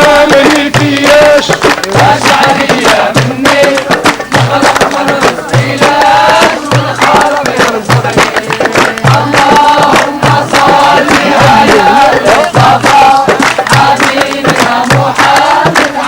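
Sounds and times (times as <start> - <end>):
group singing a chant-like song: 0.0 - 16.0
low drum beat: 0.0 - 16.0
sharp hand percussion strokes: 0.0 - 16.0.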